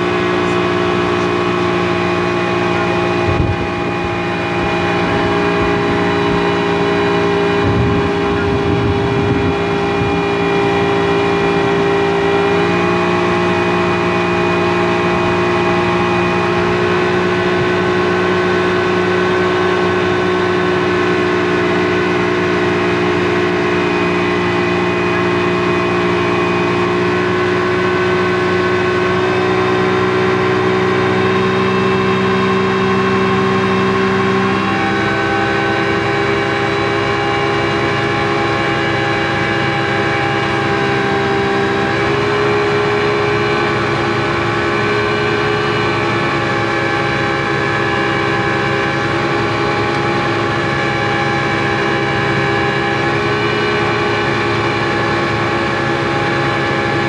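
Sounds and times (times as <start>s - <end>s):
speedboat engine drone: 0.0s - 57.0s.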